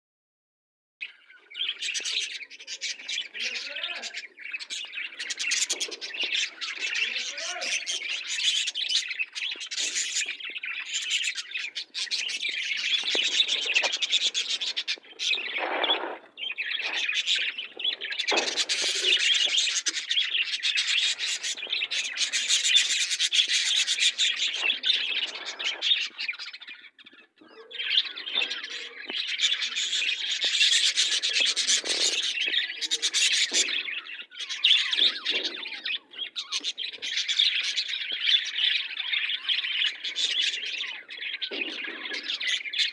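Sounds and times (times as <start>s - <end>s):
budgerigars chirping and chattering: 1.0s - 42.9s.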